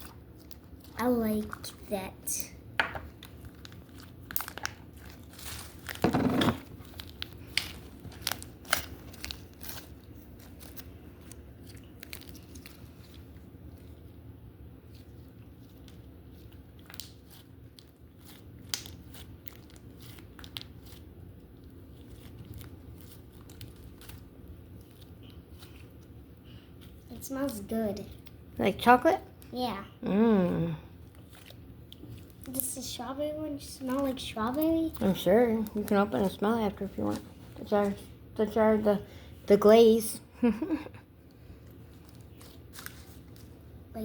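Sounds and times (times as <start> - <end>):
slime wax crackling: 0.0 - 30.0, 30.6 - 39.0.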